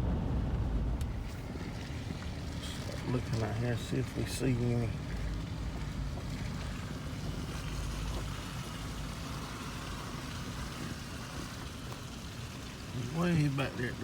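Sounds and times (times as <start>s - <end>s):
tyres on snowy road: 0.0s - 14.0s
vehicle engine running: 0.0s - 14.0s.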